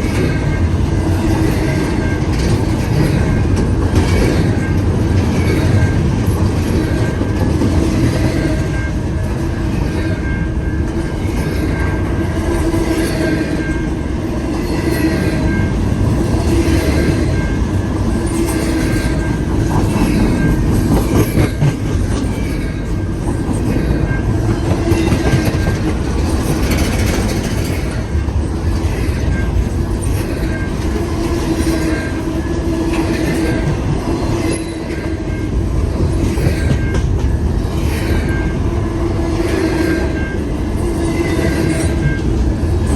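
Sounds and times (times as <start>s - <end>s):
wheels clickety-clack: 0.0s - 38.7s
train wheels rumbling on rail: 0.0s - 42.9s.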